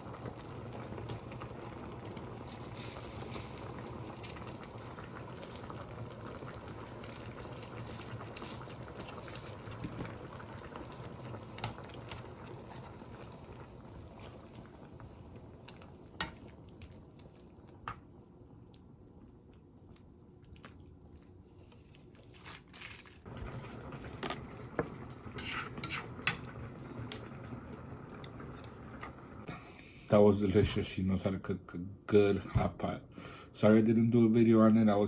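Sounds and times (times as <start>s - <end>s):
broth bubbling in pot: 0.0s - 22.3s, 23.2s - 29.6s.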